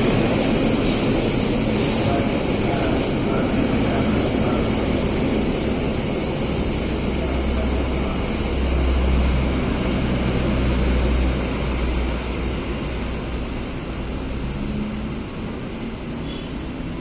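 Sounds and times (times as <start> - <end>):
locomotive engine droning: 0.0 - 17.0.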